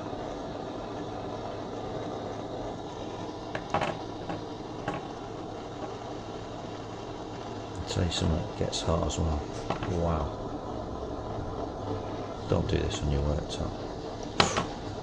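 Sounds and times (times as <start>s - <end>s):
blow torch flame hissing: 0.0s - 15.0s.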